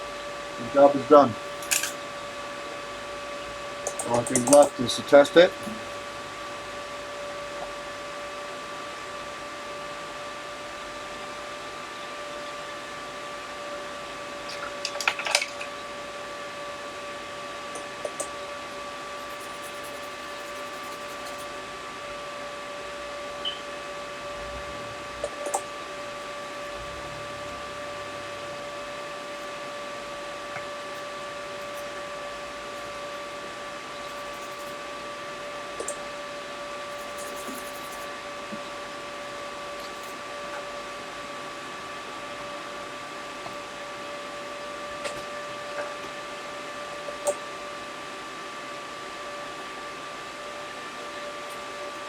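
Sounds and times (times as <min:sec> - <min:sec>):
electrical hum with whine: 0:00.0 - 0:52.0.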